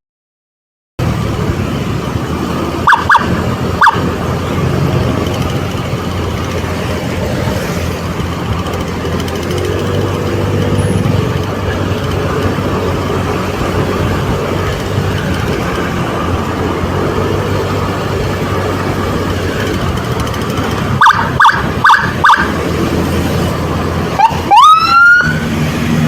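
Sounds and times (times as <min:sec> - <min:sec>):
road noise: 0:01.0 - 0:26.0
vehicle engine running: 0:01.0 - 0:26.0.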